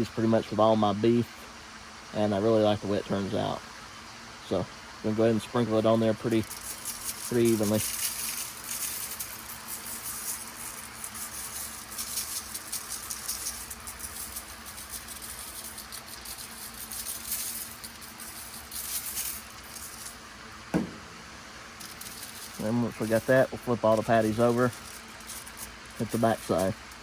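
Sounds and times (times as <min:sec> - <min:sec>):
spice grains pattering on meat: 0:05.1 - 0:27.0.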